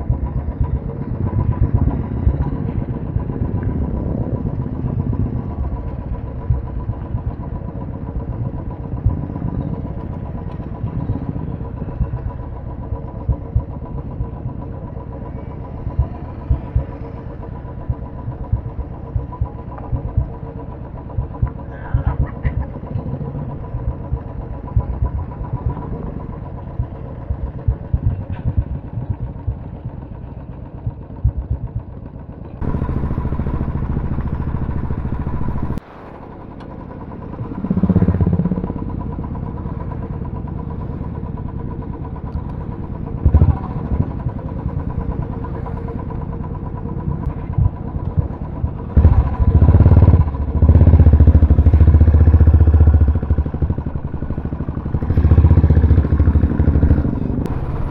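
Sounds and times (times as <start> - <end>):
motorcycle engines running: 0.0 - 57.9.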